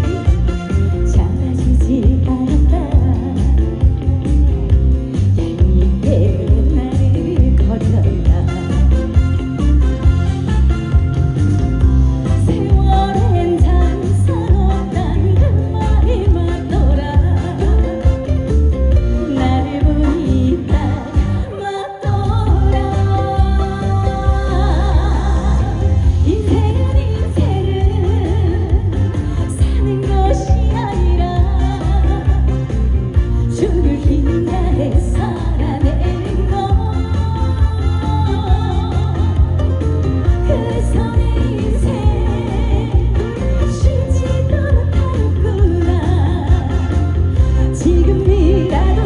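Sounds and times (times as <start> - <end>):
woman singing: 0.0 - 11.1, 11.8 - 49.0
backing music with steady beat: 0.0 - 49.0.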